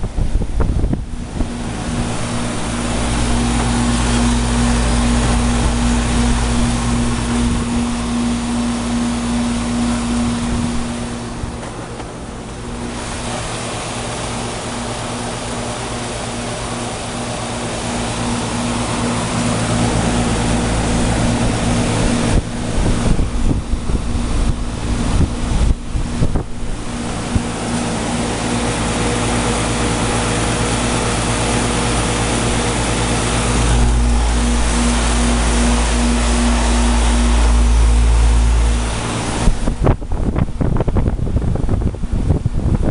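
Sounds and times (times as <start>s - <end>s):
compressor hum: 0.0s - 42.9s
fan rushing air: 0.0s - 42.9s.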